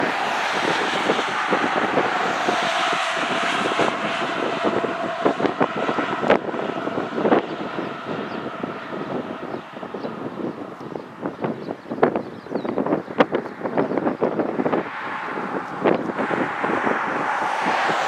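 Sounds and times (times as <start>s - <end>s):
road vehicle passing: 0.0s - 12.1s, 12.8s - 18.0s
wind on microphone: 0.0s - 18.0s.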